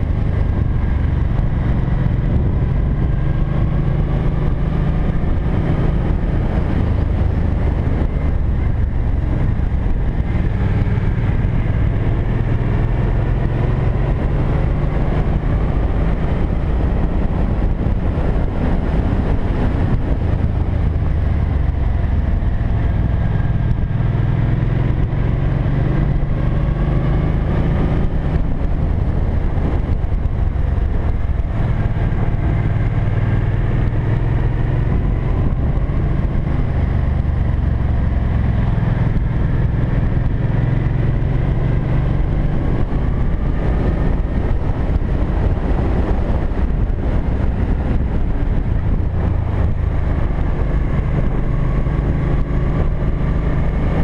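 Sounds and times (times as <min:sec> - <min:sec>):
motorcycle engine running: 0:00.0 - 0:54.0
rushing wind: 0:00.0 - 0:54.0.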